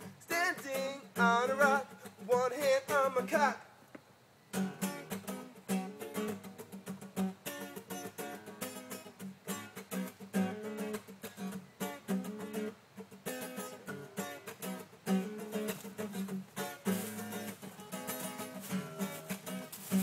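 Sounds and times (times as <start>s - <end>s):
acoustic guitar strumming: 0.0s - 3.6s, 4.5s - 20.0s.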